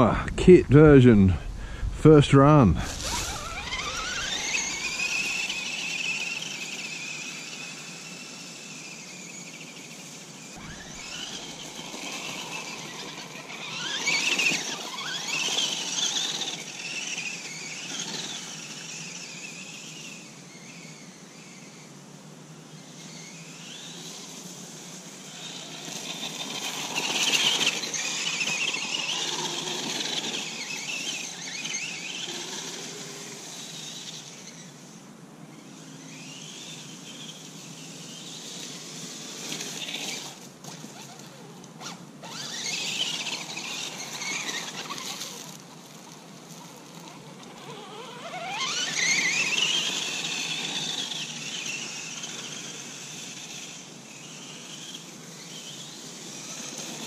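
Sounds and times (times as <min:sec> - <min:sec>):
toy car motor whining: 0:02.8 - 0:57.0.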